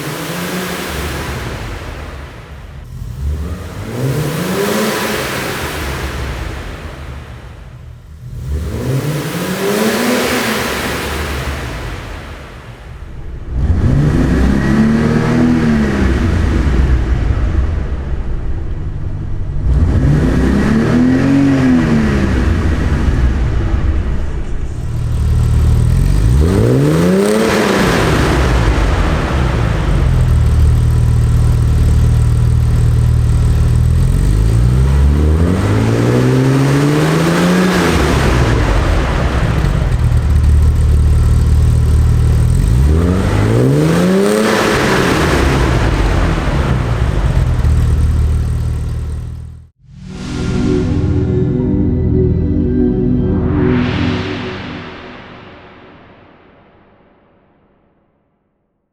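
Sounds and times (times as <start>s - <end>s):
car engine revving: 0.0s - 56.1s.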